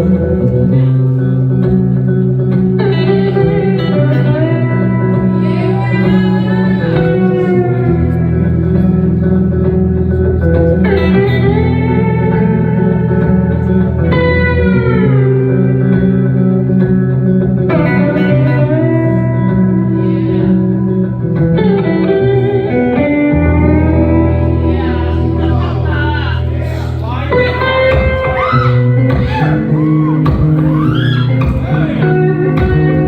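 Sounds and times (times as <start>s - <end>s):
low guitar accompaniment: 0.0s - 33.0s
slide guitar held notes: 0.0s - 33.0s.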